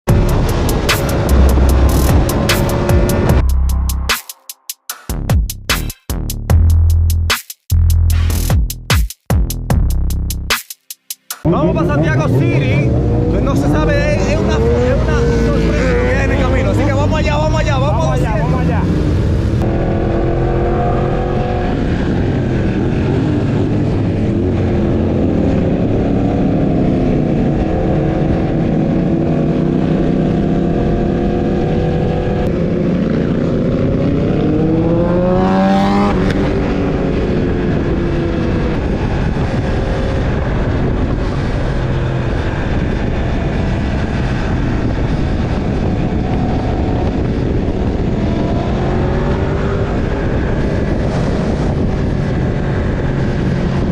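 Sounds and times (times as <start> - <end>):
motorcycle engine revving: 0.0 - 3.5, 11.4 - 53.9
steady rushing noise: 0.1 - 4.4, 11.4 - 53.9.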